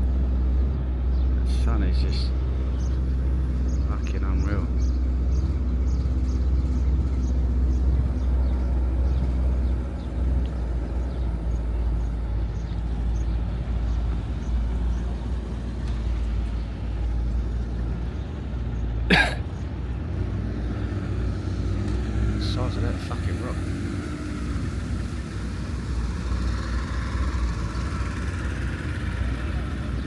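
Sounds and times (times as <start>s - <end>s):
motorboat engine humming: 2.3s - 30.0s.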